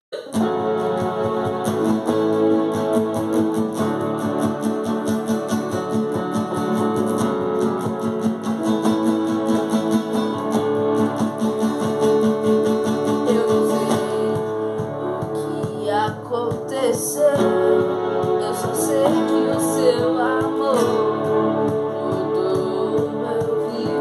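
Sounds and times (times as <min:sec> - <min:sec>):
guitar strumming chords: 0:00.1 - 0:24.0.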